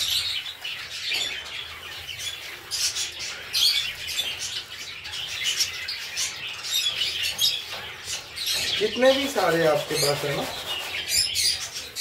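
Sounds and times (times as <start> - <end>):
cockatiels chirping: 0.0 - 12.0.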